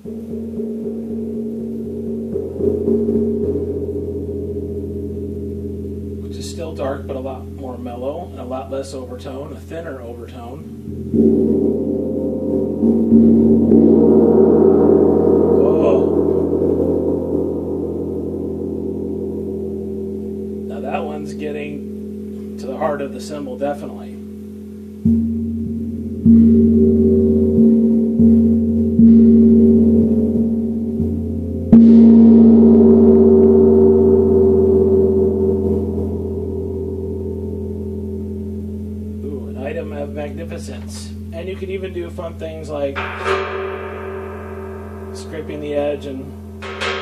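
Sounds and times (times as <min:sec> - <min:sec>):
gong struck and ringing: 0:00.0 - 0:47.0.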